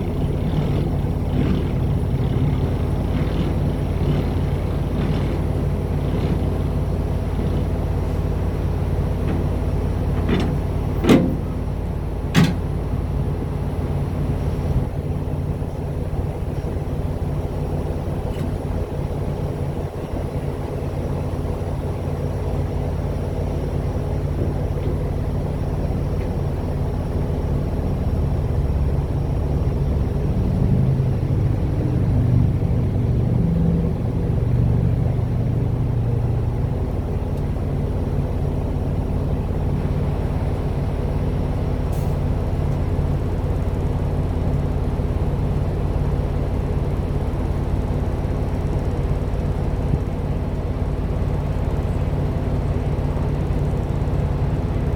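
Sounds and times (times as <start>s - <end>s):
truck engine and road noise: 0.0s - 54.9s.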